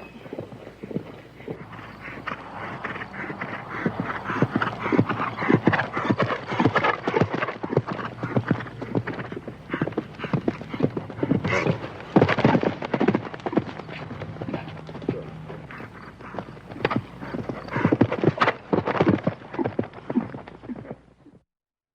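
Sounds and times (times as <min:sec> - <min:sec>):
horse hooves galloping: 0:00.0 - 0:21.4.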